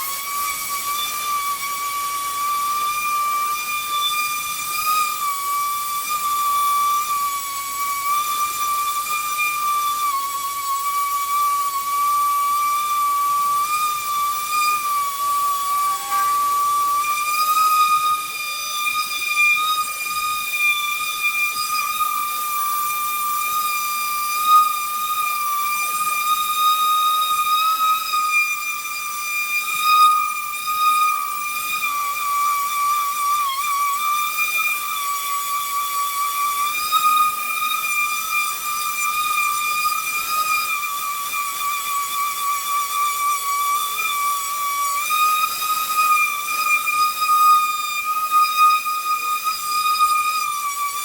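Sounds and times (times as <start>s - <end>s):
power sander whining on metal: 0.0s - 51.0s.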